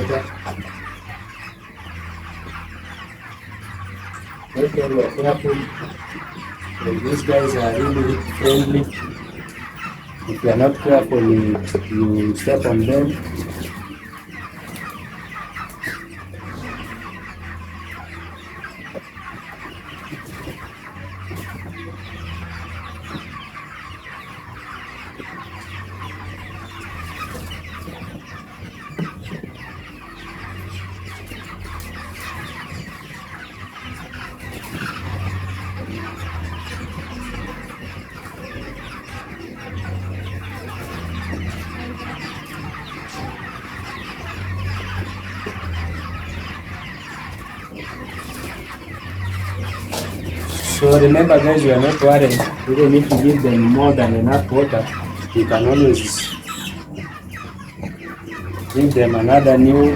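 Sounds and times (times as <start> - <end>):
chickens peeping and clucking: 0.0 - 59.9.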